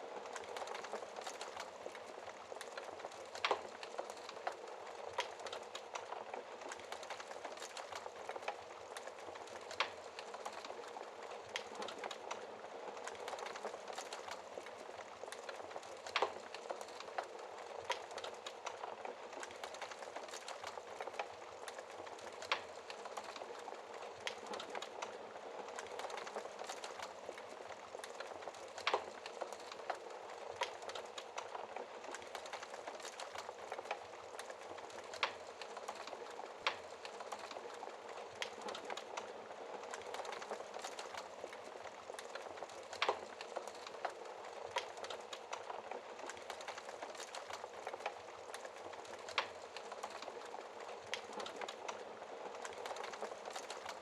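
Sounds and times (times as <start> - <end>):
flames hissing in a fireplace: 0.0 - 54.0
logs crackling and popping: 0.0 - 54.0.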